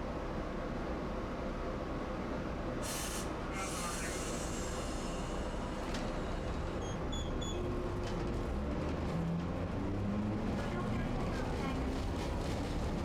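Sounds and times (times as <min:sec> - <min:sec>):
streetcar rumble: 0:00.0 - 0:13.0.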